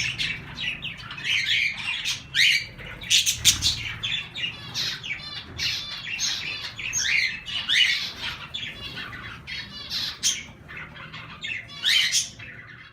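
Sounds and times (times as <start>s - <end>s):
caged birds squawking and chirping: 0.0s - 12.9s.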